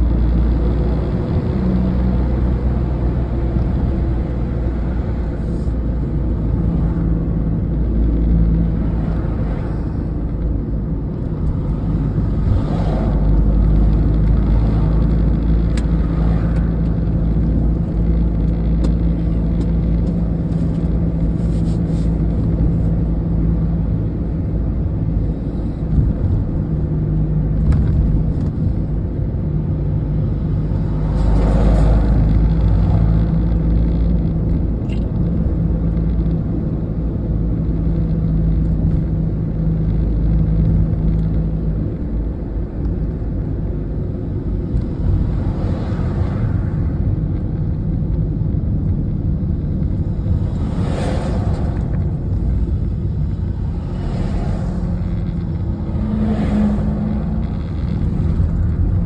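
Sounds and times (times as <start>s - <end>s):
engine hum inside vehicle: 0.0s - 59.0s.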